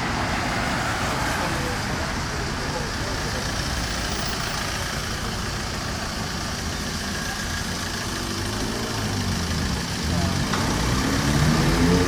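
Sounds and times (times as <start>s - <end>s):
vehicle engine idling: 0.0s - 11.7s.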